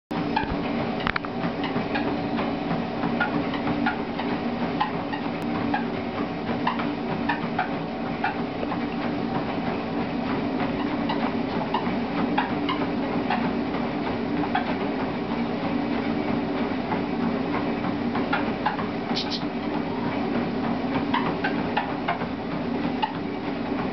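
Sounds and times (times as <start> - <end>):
treadmill motor hum: 0.1 - 23.9.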